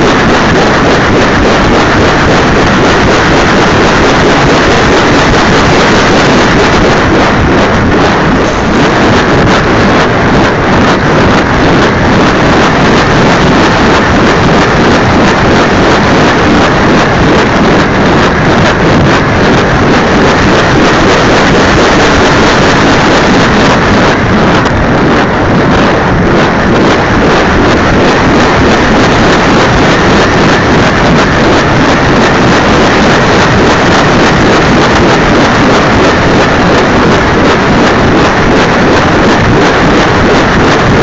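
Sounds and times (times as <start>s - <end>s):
model airplane motor roar: 0.0s - 41.0s
wind buffeting microphone: 0.0s - 41.0s.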